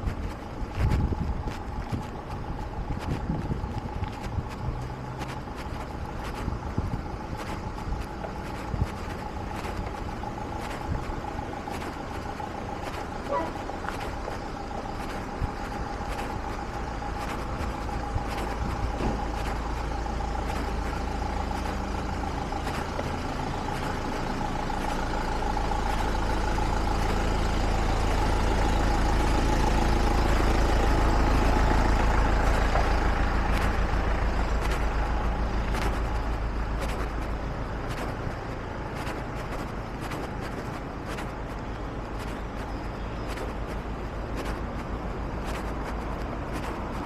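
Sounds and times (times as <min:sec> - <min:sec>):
truck engine rumbling: 0:00.0 - 0:47.0.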